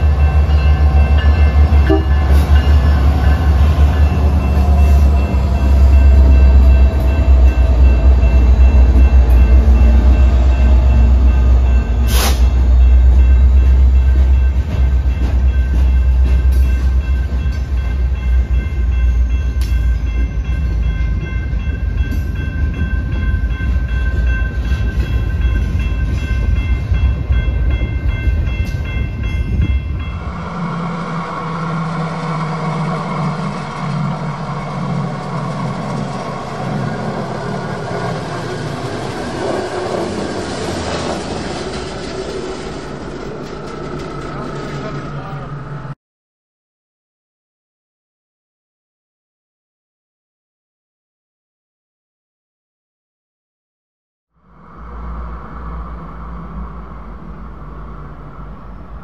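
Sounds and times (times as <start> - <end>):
freight train rumbling: 0.0 - 46.0, 54.4 - 59.0.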